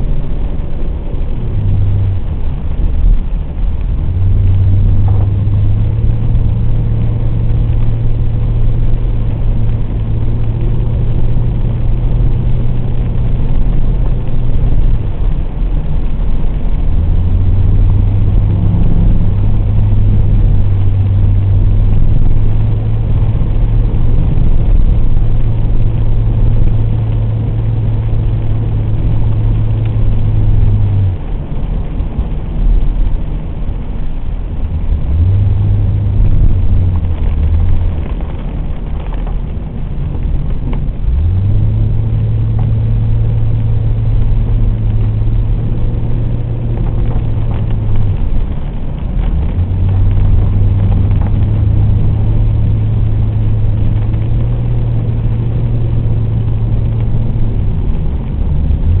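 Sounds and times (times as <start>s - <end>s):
car engine drone from inside: 0.0s - 59.0s.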